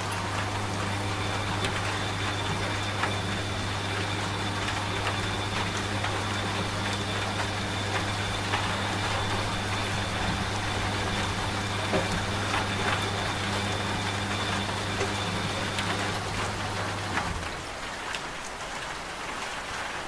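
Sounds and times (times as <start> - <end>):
rain drops ticking: 0.0 - 20.0
rain hissing: 0.0 - 20.0
washing machine humming: 0.0 - 20.0.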